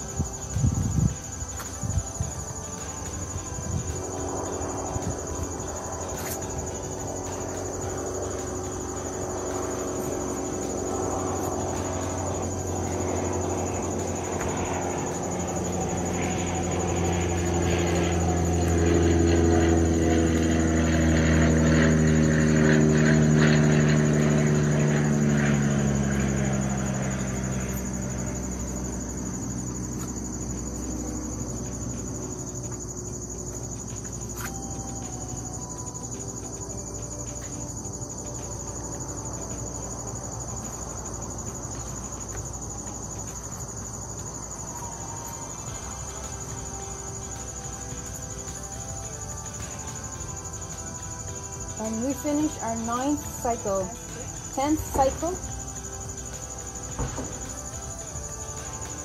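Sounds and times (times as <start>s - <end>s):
high insect drone: 0.0s - 59.0s
passing engine hum: 0.0s - 59.0s.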